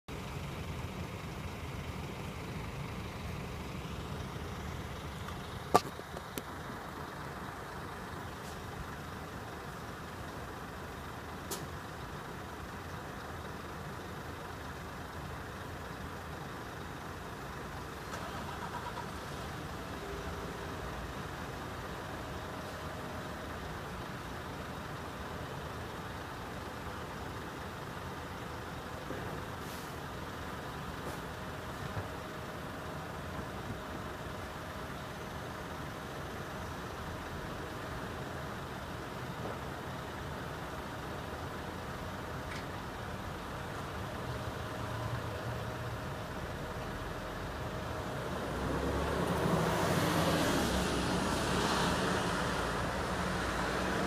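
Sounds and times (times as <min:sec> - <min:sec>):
diesel engines idling: 0:00.1 - 0:54.0.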